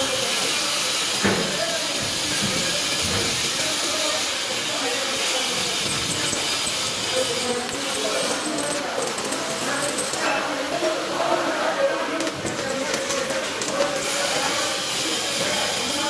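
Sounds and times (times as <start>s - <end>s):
welding arc crackling and hissing: 0.0s - 16.0s.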